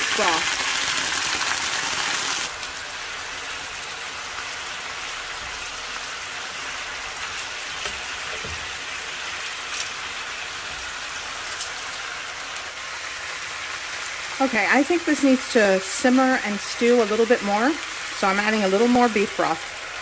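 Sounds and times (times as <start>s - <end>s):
broth sizzling in a skillet: 0.0s - 20.0s.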